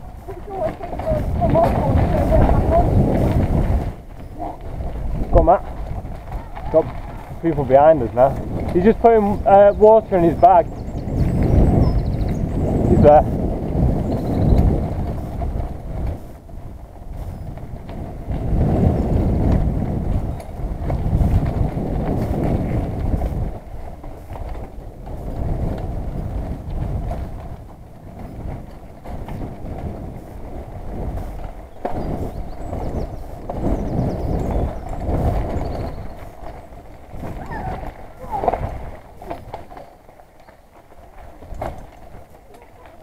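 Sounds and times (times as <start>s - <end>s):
bike rattles and knocks: 0.0s - 43.0s
bike tyre rumble on dirt: 0.0s - 43.0s.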